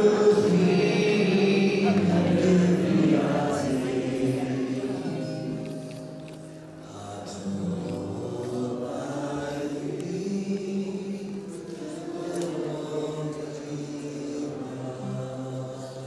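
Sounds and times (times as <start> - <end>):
group of voices singing slowly: 0.0 - 16.0.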